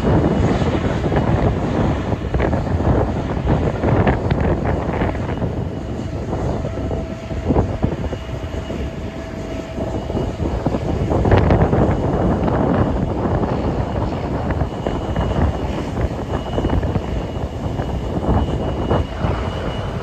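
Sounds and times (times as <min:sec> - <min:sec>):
airliner engine noise: 0:00.0 - 0:20.0
wind buffeting microphone: 0:00.0 - 0:20.0.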